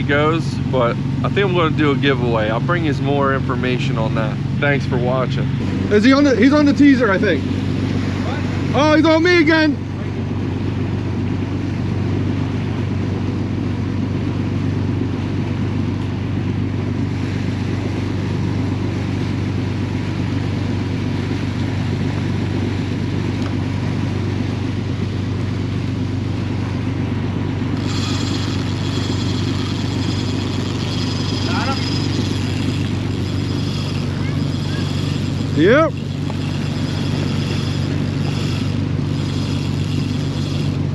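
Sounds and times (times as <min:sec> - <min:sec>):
boat engines droning: 0:00.0 - 0:40.9.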